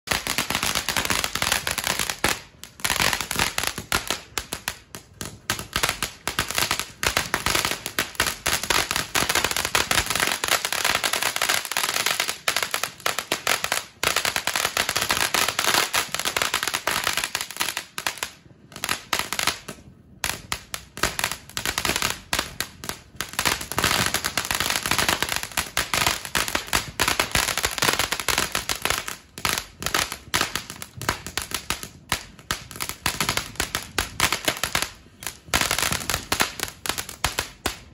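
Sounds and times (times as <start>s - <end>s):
firework crackling: 0.1s - 37.9s.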